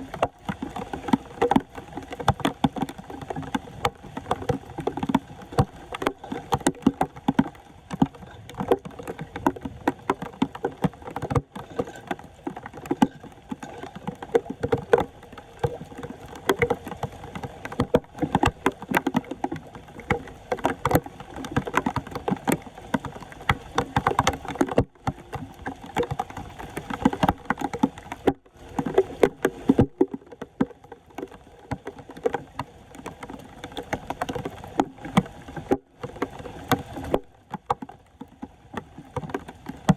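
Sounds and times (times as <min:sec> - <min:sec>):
floodwater splashing: 0:00.0 - 0:39.9.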